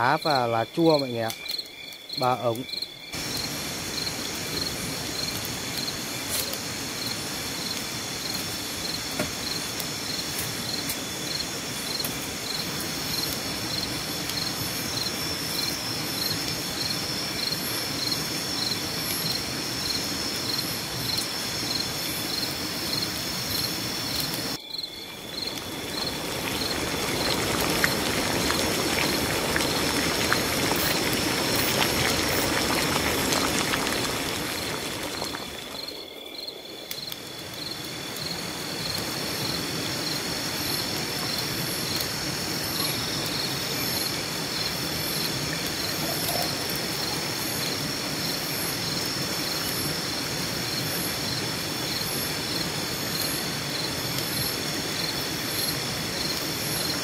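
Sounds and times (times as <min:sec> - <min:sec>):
crickets chirping: 0:00.0 - 0:57.0
food simmering and steaming hiss: 0:00.0 - 0:57.0.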